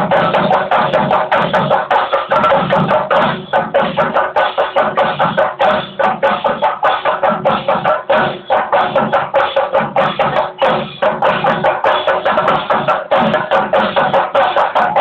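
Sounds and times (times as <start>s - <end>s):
drums beaten with sticks: 0.0s - 15.0s.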